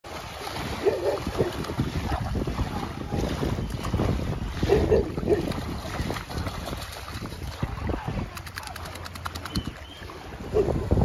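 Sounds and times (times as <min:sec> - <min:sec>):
dog splashing in water: 0:00.1 - 0:10.3
wind buffeting microphone: 0:00.1 - 0:11.0.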